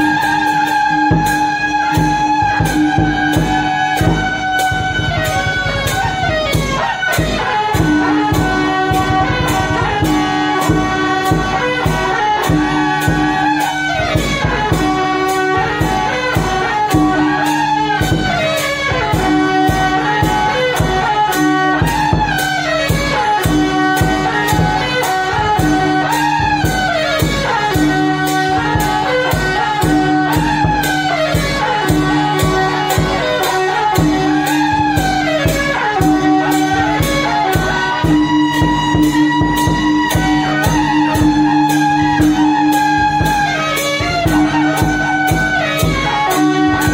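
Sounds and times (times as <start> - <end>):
barrel drum beat: 0.0 - 46.9
loud high sliding melody: 0.0 - 46.9.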